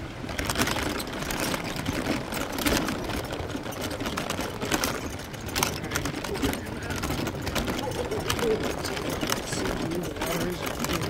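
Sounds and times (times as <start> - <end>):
crunching and rattling clicks: 0.0 - 11.0.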